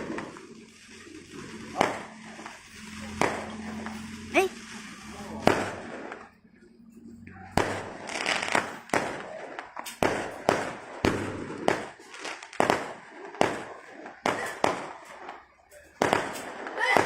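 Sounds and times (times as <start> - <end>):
crackling hiss: 0.0 - 17.0
fireworks bangs: 0.0 - 17.0.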